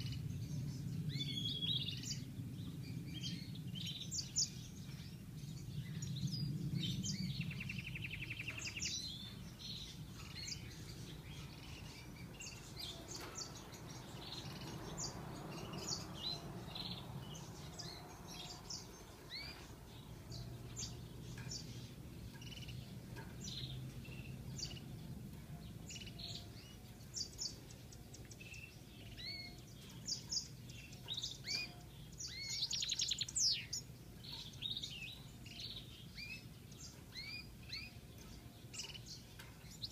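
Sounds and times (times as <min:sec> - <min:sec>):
finch singing high twittering: 0:00.0 - 0:39.9.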